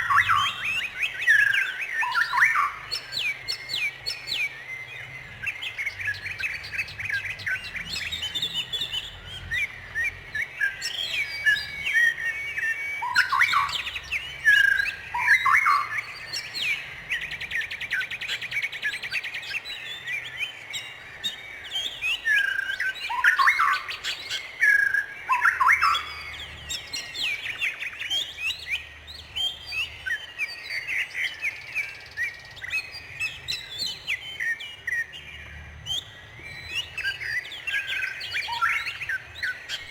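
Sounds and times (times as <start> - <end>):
songbirds chirping and singing: 0.0 - 39.9
swooping bird calls: 0.0 - 39.9.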